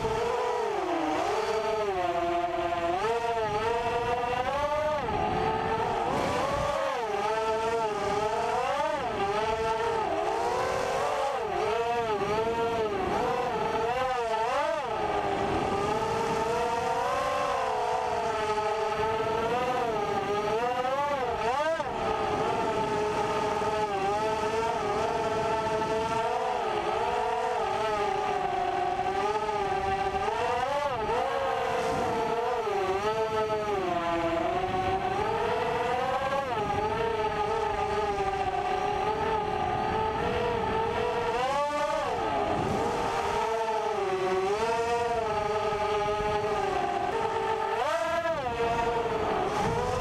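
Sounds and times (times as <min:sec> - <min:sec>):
quadcopter motors whining: 0:00.0 - 0:50.0.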